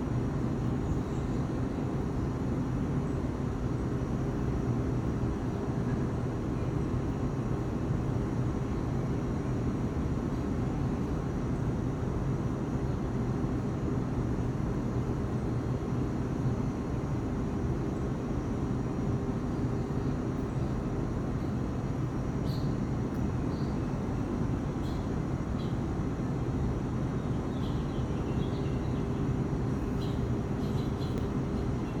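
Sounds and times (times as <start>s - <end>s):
constant low hum: 0.0s - 32.0s.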